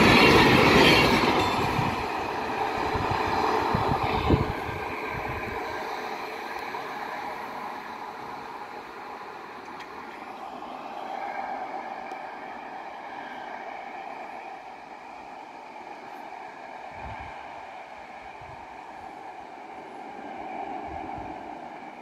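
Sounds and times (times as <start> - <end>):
railcar running on track: 0.0 - 22.0.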